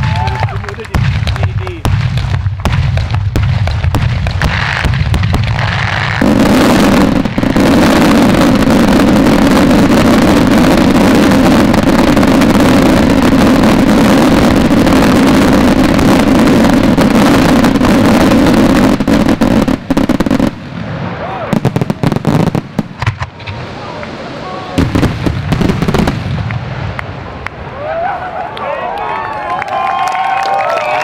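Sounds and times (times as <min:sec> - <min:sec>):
fireworks barrage: 0:00.0 - 0:28.1.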